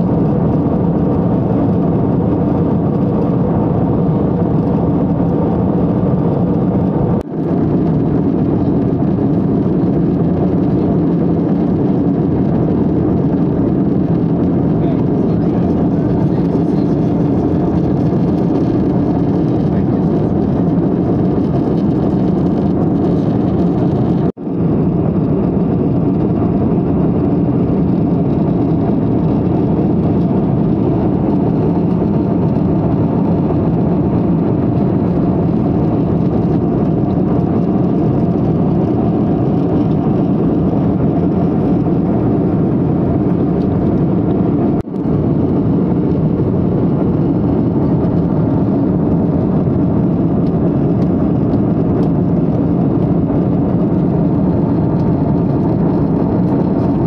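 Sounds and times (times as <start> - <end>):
airliner cabin engine roar: 0.0 - 57.0.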